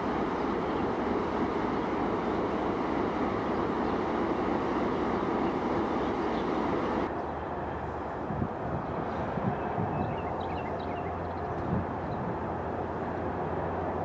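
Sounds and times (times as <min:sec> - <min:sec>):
diesel locomotive running: 0:00.0 - 0:14.0.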